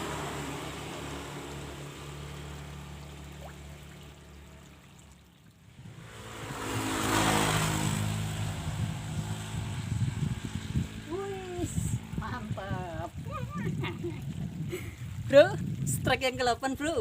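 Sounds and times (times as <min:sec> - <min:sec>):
engine humming: 0:00.0 - 0:14.6.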